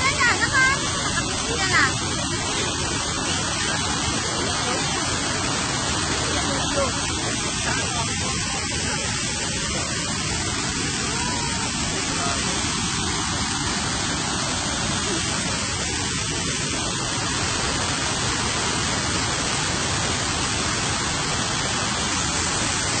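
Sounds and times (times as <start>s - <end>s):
waterfall pouring over rocks: 0.0s - 23.0s.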